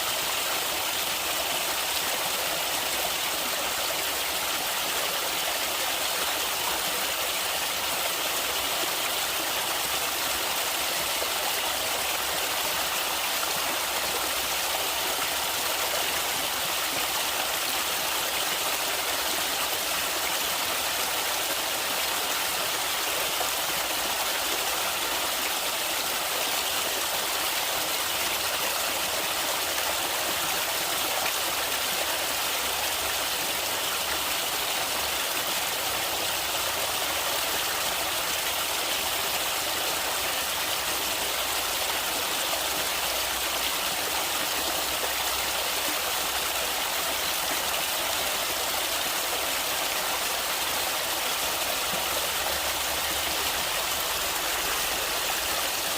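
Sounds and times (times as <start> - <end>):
stream flowing over rocks: 0.0 - 55.9.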